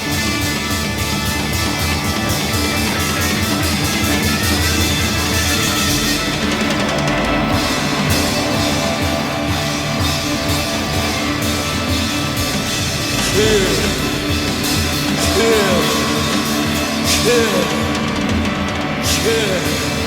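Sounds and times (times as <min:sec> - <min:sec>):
loud rock music with drums: 0:00.0 - 0:20.0.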